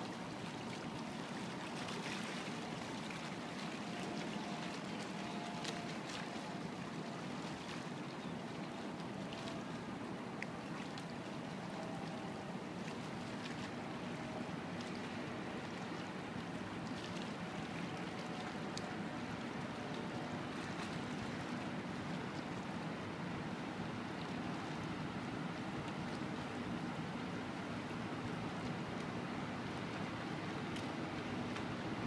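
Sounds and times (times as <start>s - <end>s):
wash of noise: 0.0s - 32.0s.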